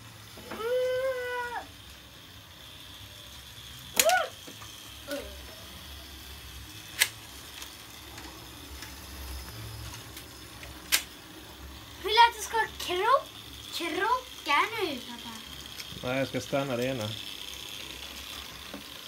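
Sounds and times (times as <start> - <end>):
model train hum: 0.0 - 19.0.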